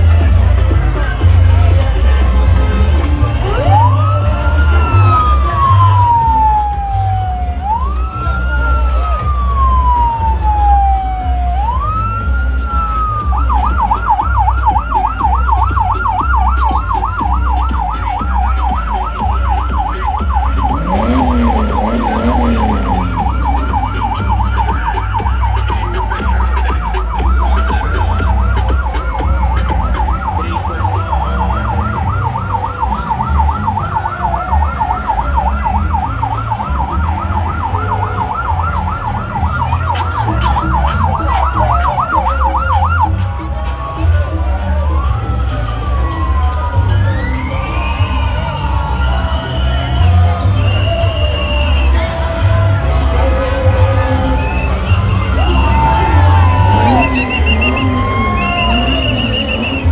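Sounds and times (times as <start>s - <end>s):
pulsing deep bass beat: 0.0s - 59.9s
police siren wailing and yelping: 3.3s - 59.9s.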